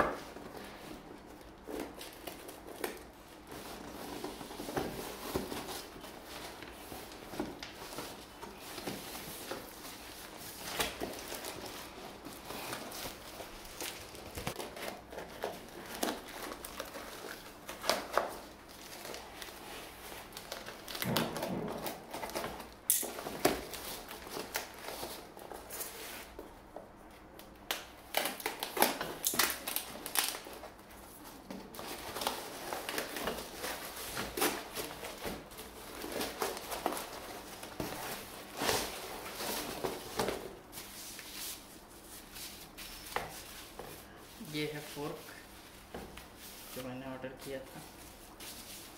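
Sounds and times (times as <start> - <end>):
packing tape and cardboard tearing: 0.0 - 26.4, 27.4 - 41.6.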